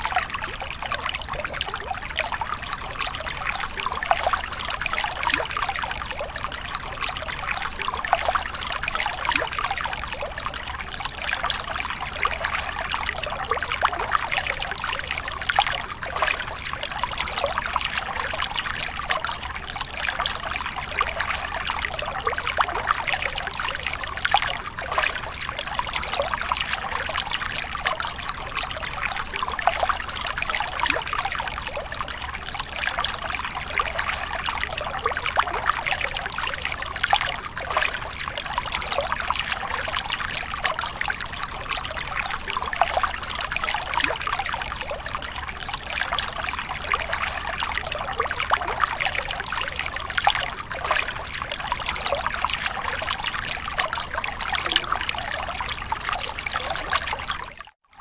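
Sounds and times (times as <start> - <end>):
stream trickling over rocks: 0.0 - 58.0.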